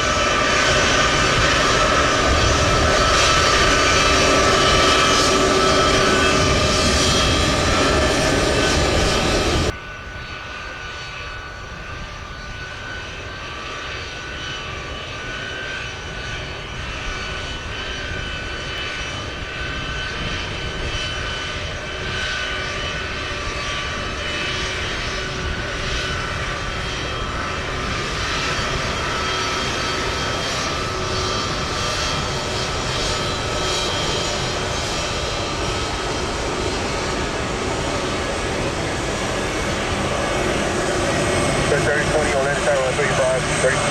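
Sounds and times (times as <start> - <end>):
approaching jet aircraft: 0.0 - 43.9
jet engines whining: 0.0 - 43.9.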